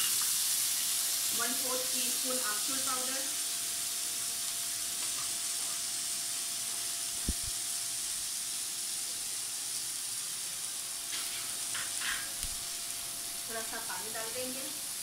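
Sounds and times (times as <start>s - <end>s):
potatoes sizzling in a pan: 0.0s - 15.0s.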